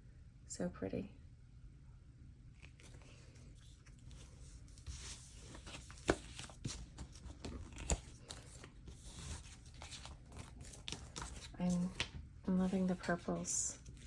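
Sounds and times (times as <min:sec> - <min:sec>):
paper and plastic rustling: 0:02.6 - 0:14.0.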